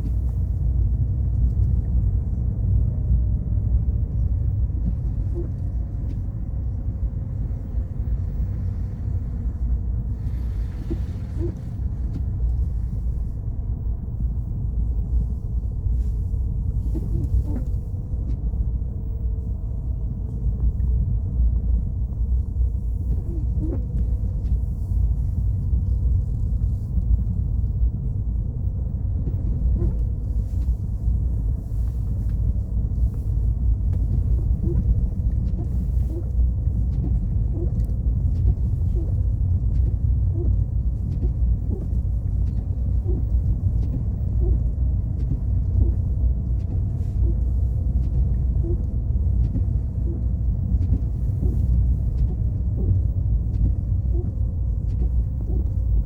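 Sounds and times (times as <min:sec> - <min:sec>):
car engine and tyre rumble: 0:00.0 - 0:56.0
faint engine tone: 0:04.1 - 0:56.0.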